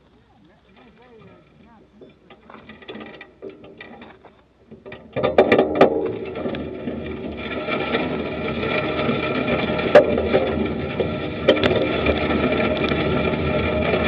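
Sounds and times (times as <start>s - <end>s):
bicycle rattling: 0.0s - 14.0s
bicycle tyres crunching on gravel: 0.0s - 14.0s.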